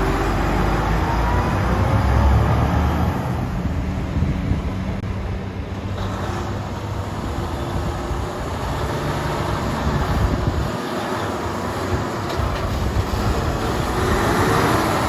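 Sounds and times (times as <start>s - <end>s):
road and wind noise: 0.0s - 15.0s
truck diesel engine rumble: 0.0s - 15.0s.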